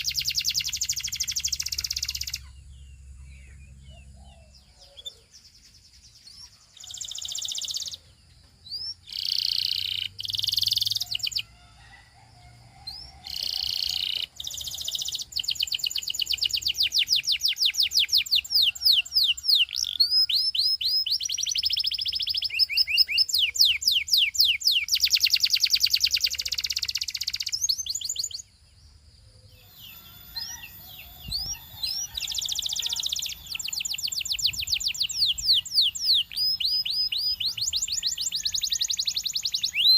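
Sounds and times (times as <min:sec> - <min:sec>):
canary singing: 0:00.0 - 0:12.0, 0:12.7 - 0:28.6, 0:29.4 - 0:39.9.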